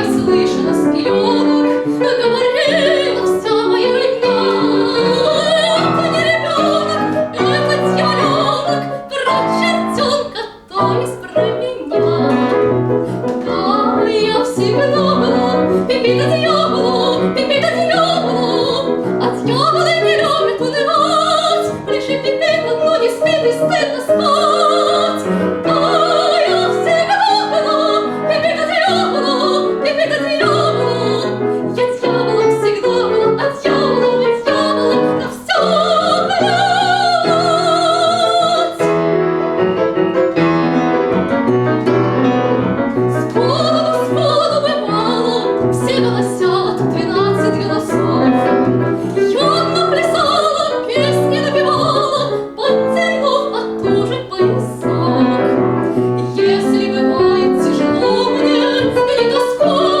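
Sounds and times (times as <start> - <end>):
piano accompaniment: 0.0 - 60.0
soprano singing: 0.0 - 60.0.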